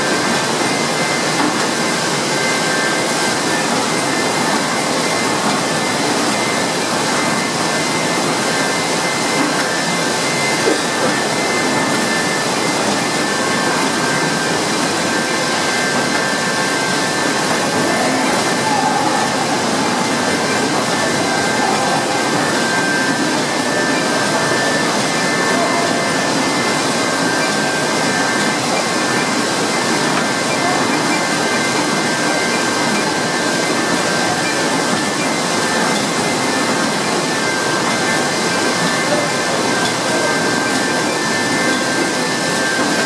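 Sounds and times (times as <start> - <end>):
packaging machine running: 0.0 - 43.0.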